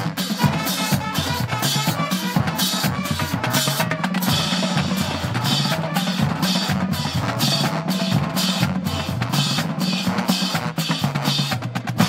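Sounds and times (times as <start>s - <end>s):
drumline playing a cadence: 0.0s - 12.0s.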